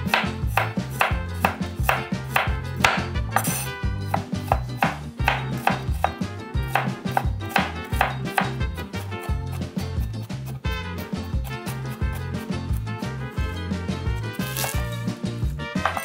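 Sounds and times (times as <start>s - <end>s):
knife chopping on cutting board: 0.0s - 16.0s.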